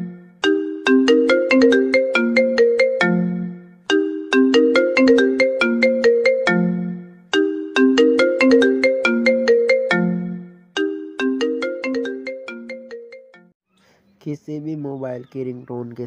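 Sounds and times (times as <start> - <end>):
mobile phone ringtone melody: 0.0 - 13.6.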